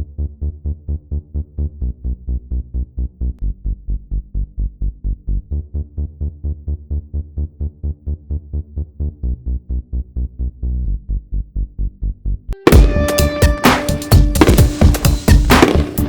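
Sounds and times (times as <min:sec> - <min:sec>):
electronic music with pulsing bass: 0:00.0 - 0:16.0.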